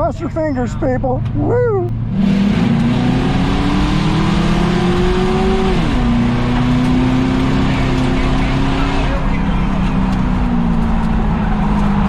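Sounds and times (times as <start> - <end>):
race car engine revving: 0.7 - 12.0.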